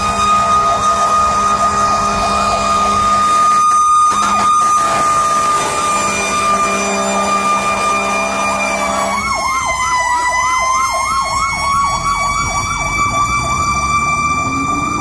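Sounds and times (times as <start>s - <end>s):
electronic siren yelp: 0.0s - 15.0s
siren high wail: 0.0s - 15.0s.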